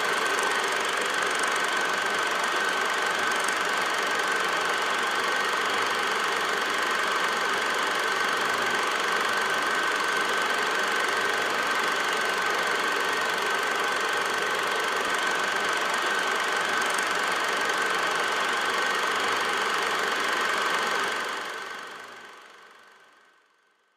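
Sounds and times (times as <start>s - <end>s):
film projector whirring: 0.0s - 23.6s.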